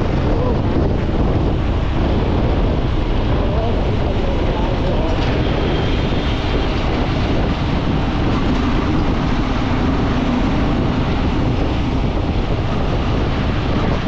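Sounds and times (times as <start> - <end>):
motorcycle engine humming: 0.0 - 14.0
wind rushing over microphone: 0.0 - 14.0.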